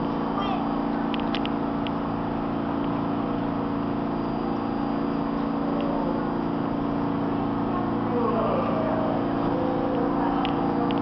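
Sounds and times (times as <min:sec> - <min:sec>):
subway train equipment humming: 0:00.0 - 0:11.0.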